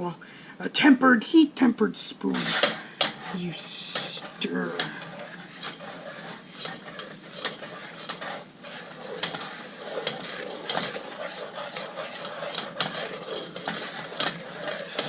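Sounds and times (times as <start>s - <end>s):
wooden spoon scraping a saucepan: 2.2s - 15.0s.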